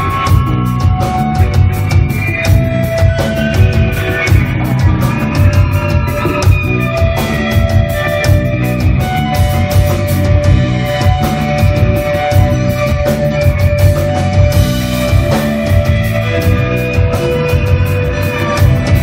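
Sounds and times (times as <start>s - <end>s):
busy drumming with cymbals: 0.0s - 19.0s
heavy bass line: 0.0s - 19.0s.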